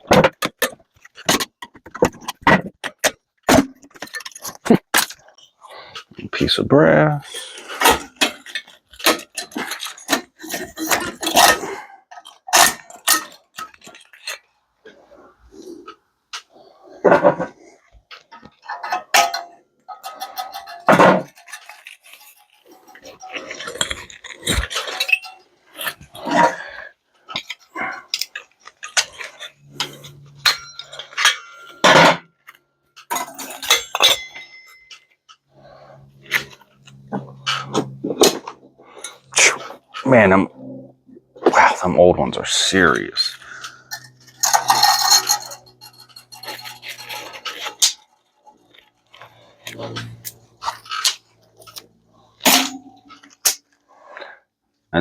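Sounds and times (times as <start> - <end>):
metal parts clanking: 0.0 - 15.0, 15.6 - 40.8, 41.4 - 53.8.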